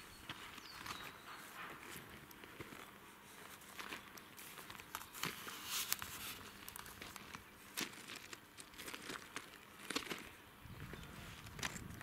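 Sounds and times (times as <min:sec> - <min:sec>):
footsteps crunching dry grass: 0:00.2 - 0:12.0.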